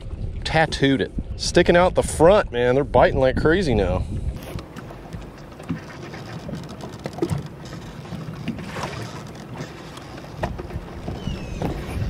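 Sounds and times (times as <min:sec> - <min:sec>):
water lapping at hull: 0:00.0 - 0:12.0
wind buffeting microphone: 0:00.0 - 0:12.0.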